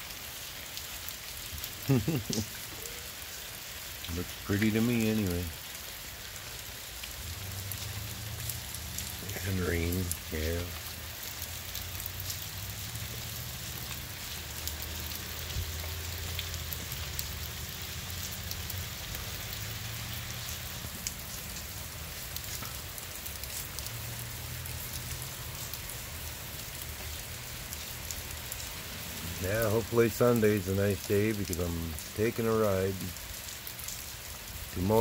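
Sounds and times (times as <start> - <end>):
light rain falling: 0.0 - 35.0
raindrop ticks: 0.7 - 35.0.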